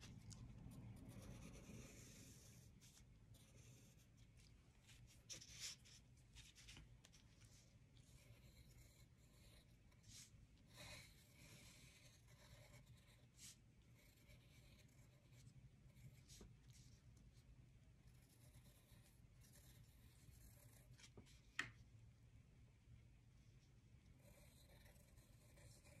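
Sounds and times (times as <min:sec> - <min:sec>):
pencil scratching on paper: 0:00.0 - 0:17.0, 0:18.1 - 0:21.4, 0:24.2 - 0:26.0
low steady hum: 0:00.0 - 0:26.0.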